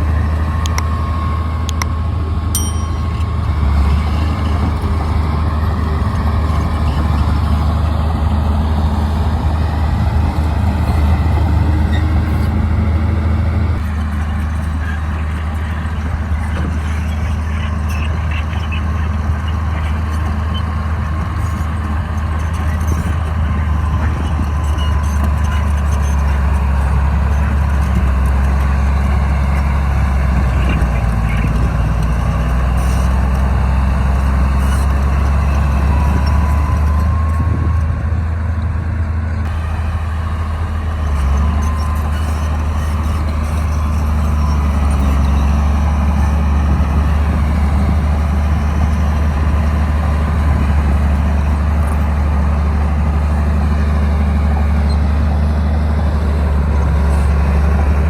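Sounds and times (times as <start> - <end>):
bulldozer diesel engine droning: 0.0 - 58.0
faint engine whine: 0.0 - 58.0.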